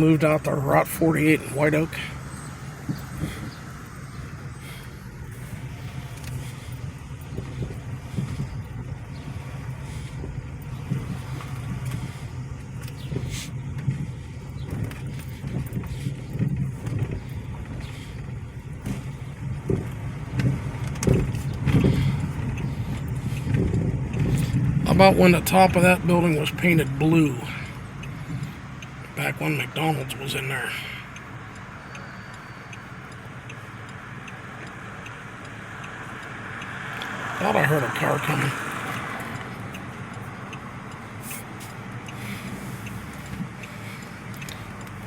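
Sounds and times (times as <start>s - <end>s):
car engine hum: 0.0s - 45.0s
road noise inside car: 0.0s - 45.0s.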